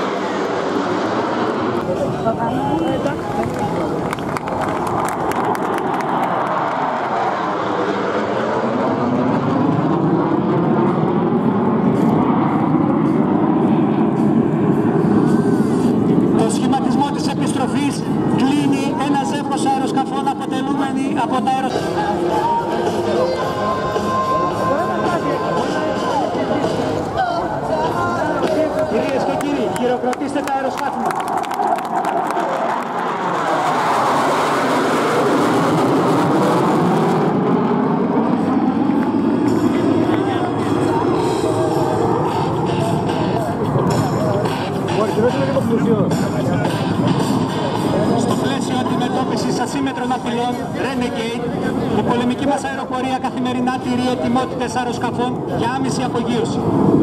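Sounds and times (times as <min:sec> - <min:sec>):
fighter jets flying past: 0:00.0 - 0:57.0.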